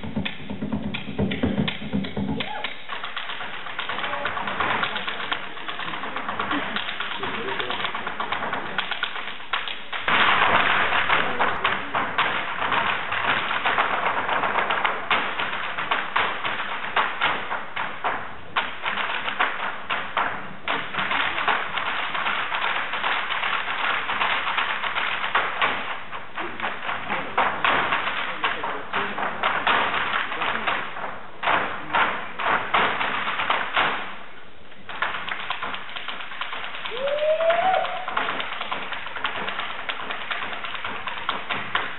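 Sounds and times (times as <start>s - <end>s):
hard shoes tapping on stage floor: 0.0s - 34.2s, 34.8s - 41.9s.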